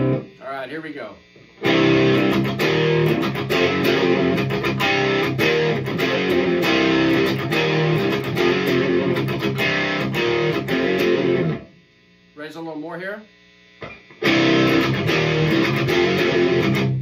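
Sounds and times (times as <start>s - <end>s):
distorted electric guitar riffing: 0.0s - 11.8s, 13.8s - 17.0s.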